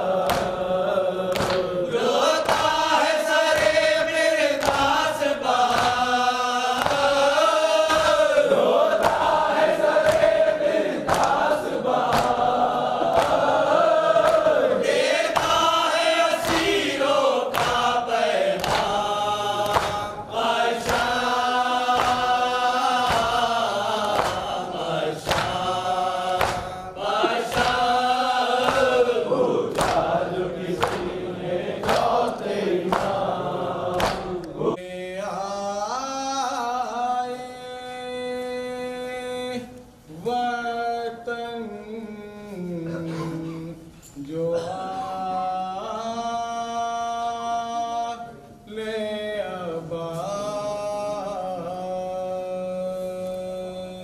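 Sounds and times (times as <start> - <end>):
men chanting in chorus: 0.0 - 54.0
person reciting into a microphone: 0.0 - 54.0.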